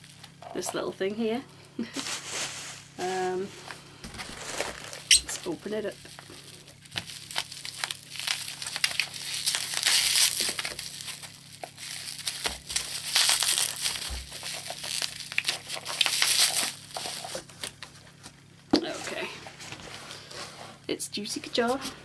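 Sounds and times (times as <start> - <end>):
bubble wrap crinkling: 1.8 - 21.8.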